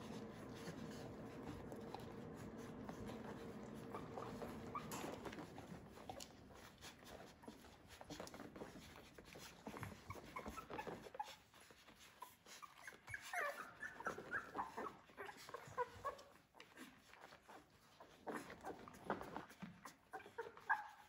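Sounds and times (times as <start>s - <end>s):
soft clicking and shuffling: 0.0s - 21.0s
puppies squeaking and whimpering: 0.3s - 21.0s.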